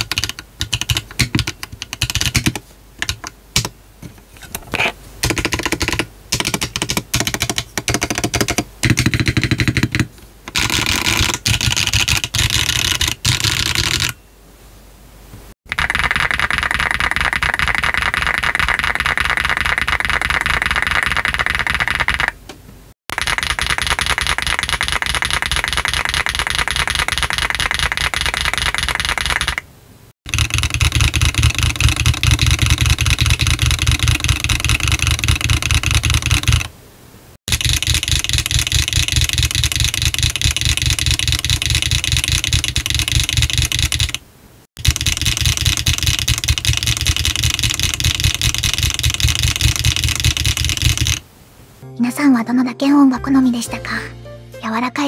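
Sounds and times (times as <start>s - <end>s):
mechanical keyboard typing: 0.0s - 3.7s, 5.2s - 14.2s, 15.7s - 22.4s, 23.1s - 29.6s, 30.3s - 36.7s, 37.5s - 44.2s, 44.8s - 51.2s.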